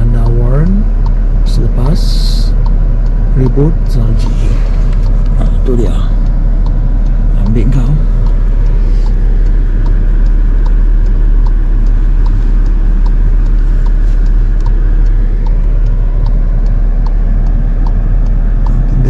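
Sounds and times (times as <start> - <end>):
car rumbling on the move: 0.0 - 19.0
light even ticking: 0.0 - 19.0.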